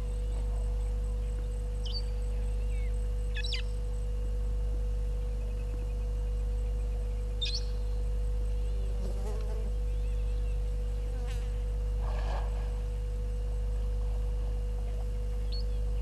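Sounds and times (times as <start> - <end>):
electrical hum: 0.0 - 16.0
thin buzzing tone: 0.0 - 16.0.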